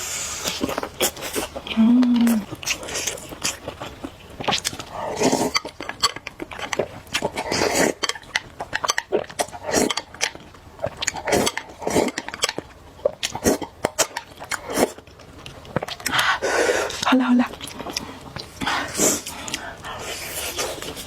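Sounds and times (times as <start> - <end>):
wet chewing and slurping: 0.0 - 21.0.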